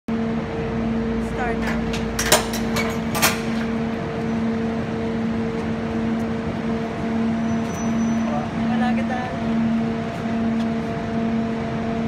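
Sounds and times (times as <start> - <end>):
steady mechanical hum: 0.1 - 12.0.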